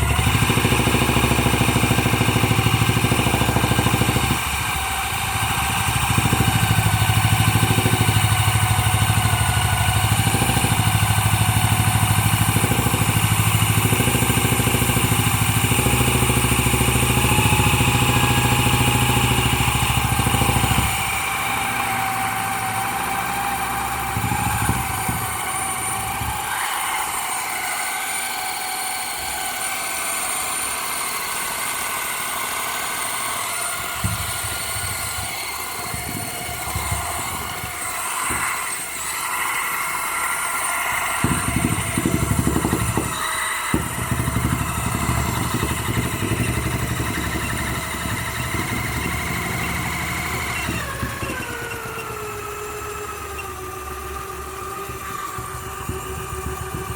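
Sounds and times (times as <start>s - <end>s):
low rattle: 0.0s - 28.1s, 31.6s - 56.9s
small electric motor whining: 0.0s - 56.9s.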